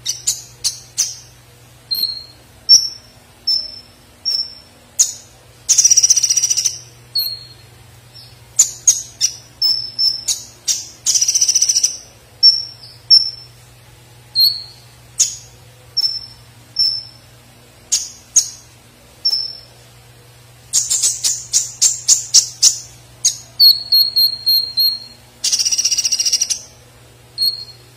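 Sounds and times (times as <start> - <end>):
buzzy bird trills: 0.0 - 13.6, 14.3 - 17.3, 20.7 - 26.8, 27.4 - 27.9
bird chirping: 0.0 - 13.7, 14.3 - 19.9, 20.6 - 26.8, 27.4 - 27.9.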